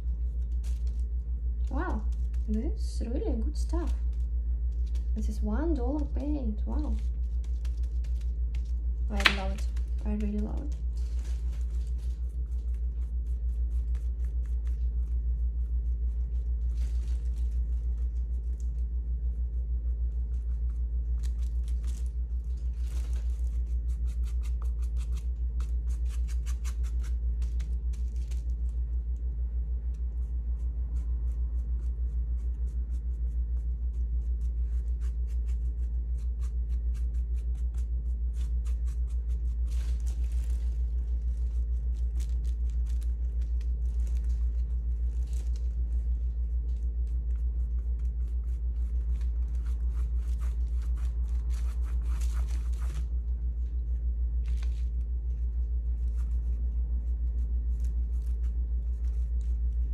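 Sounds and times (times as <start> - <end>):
pulsing low rumble: 0.0 - 59.9.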